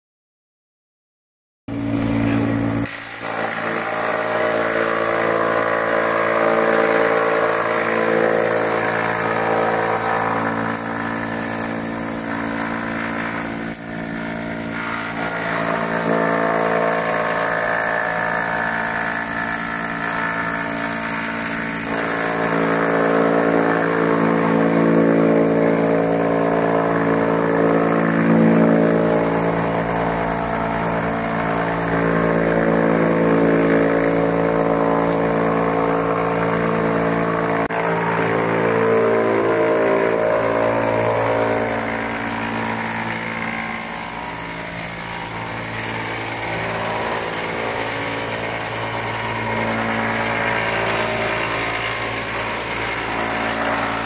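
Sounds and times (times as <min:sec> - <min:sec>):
wood chipper running: 0:01.7 - 0:54.0.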